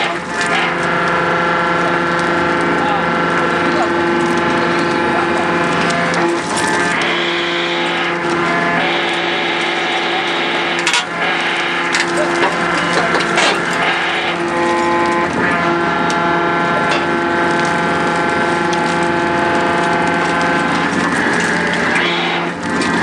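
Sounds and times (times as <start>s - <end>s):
concrete cracking: 0.0s - 23.0s
excavator engine and hydraulics: 0.0s - 23.0s
hydraulic whine: 0.0s - 23.0s.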